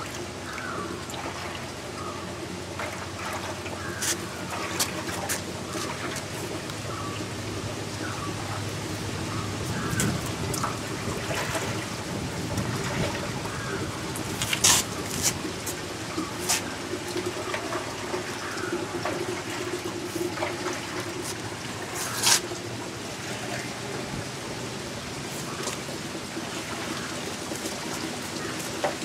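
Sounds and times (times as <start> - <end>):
latex splashing and trickling: 0.0 - 29.0.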